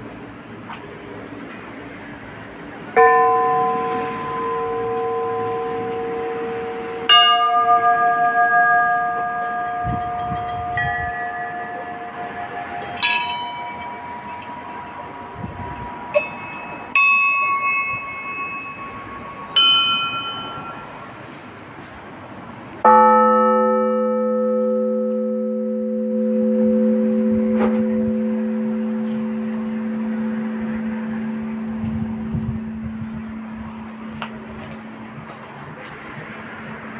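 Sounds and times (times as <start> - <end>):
small high church bells: 2.5 - 21.8, 22.8 - 36.9
large low bell ringing: 2.9 - 21.6, 22.8 - 36.9.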